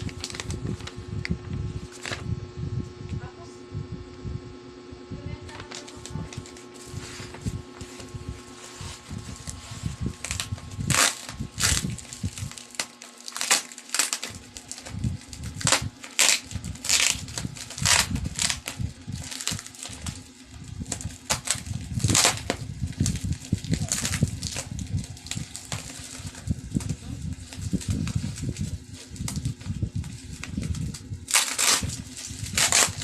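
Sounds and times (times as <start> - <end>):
packaging crinkling: 0.0 - 1.0, 5.5 - 33.0.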